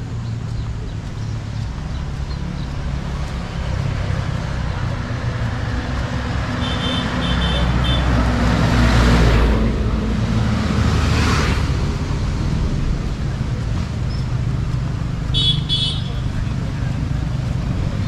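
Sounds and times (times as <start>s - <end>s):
vehicle passing close: 0.0s - 15.3s
vehicle engines running: 0.0s - 18.0s.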